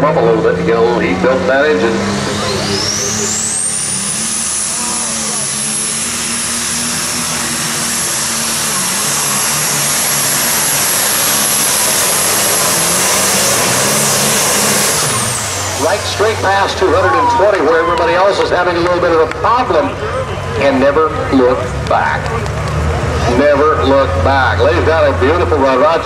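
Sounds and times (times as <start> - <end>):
diesel tractor engine at full power: 0.0 - 26.0
turbocharger whine: 0.0 - 26.0.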